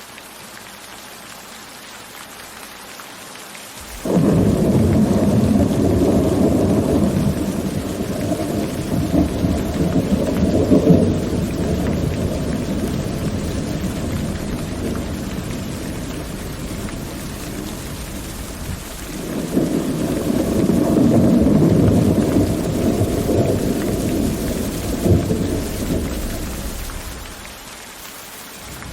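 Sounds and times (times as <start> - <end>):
steady rain: 0.0 - 28.9
rolling thunder: 3.8 - 27.4, 28.7 - 28.9.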